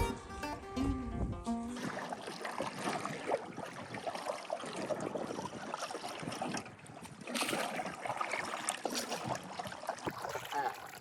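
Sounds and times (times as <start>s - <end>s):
water splashing around a canoe: 1.7s - 11.0s.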